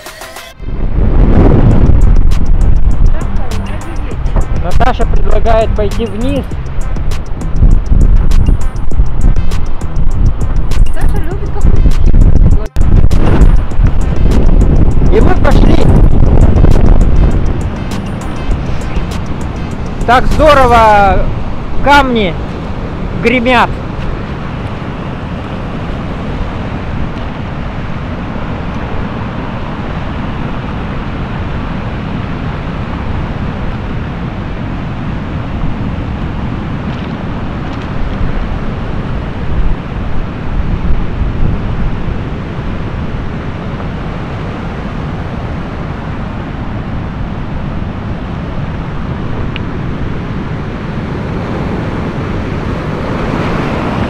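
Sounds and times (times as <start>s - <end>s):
wind buffeting microphone: 0.6s - 54.0s.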